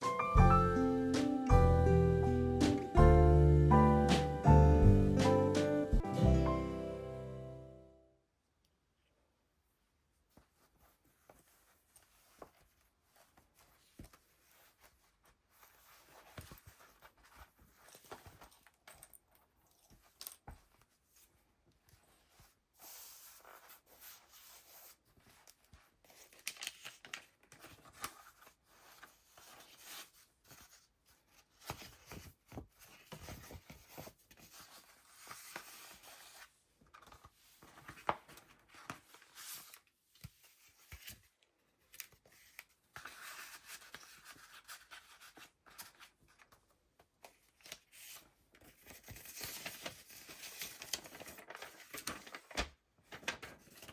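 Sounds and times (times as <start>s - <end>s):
paper rustling and crinkling: 10.3s - 53.9s.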